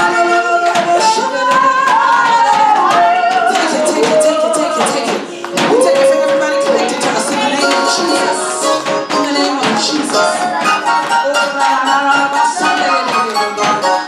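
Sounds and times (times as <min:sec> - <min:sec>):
hand percussion: 0:00.0 - 0:14.0
people clapping: 0:00.0 - 0:14.0
woman singing into microphone: 0:00.0 - 0:14.0.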